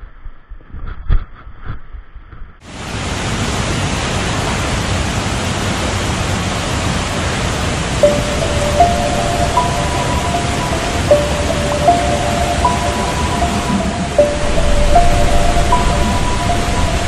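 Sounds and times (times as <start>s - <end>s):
jungle stream and small waterfalls: 2.6s - 17.0s.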